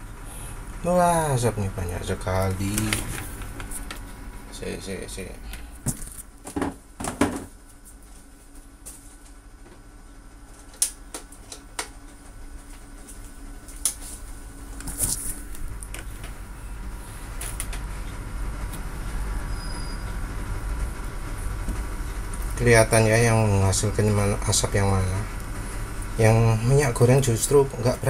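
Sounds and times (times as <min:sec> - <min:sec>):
gas burner rumble: 0:00.0 - 0:07.6, 0:08.6 - 0:28.0.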